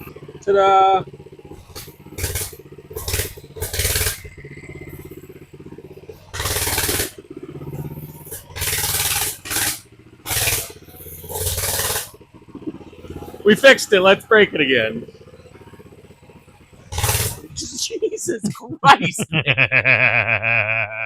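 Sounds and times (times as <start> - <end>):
small engine running with surges: 0.0 - 18.6.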